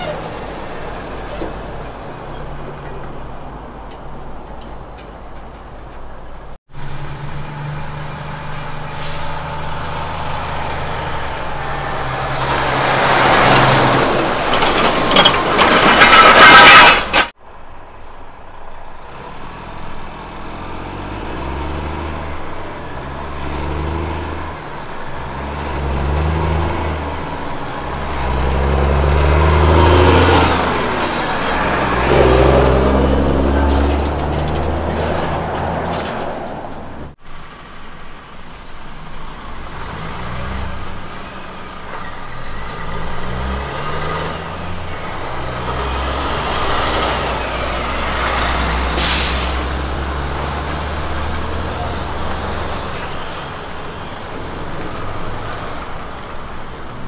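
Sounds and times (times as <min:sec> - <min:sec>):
truck passing by: 0:00.0 - 0:57.0
truck engine revving through gears: 0:06.7 - 0:17.3, 0:19.0 - 0:37.5, 0:38.9 - 0:57.0.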